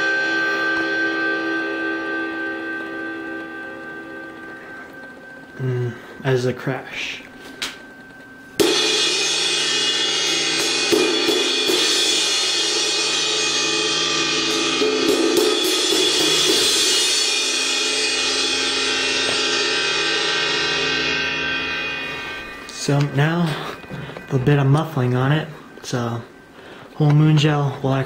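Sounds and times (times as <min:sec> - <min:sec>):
ride cymbal crashes: 0:00.0 - 0:07.7, 0:08.6 - 0:27.0.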